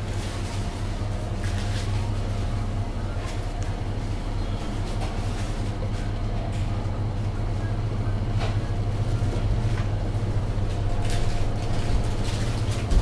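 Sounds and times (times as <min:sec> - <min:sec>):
refrigeration hum: 0:00.0 - 0:13.0.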